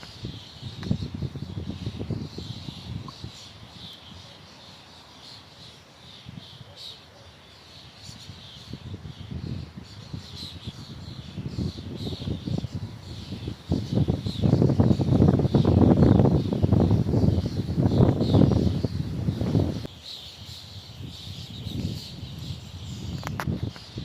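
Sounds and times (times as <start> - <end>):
wind gusting: 0.0 - 5.1, 8.0 - 19.9, 20.8 - 24.0
small birds chirping: 0.0 - 24.0.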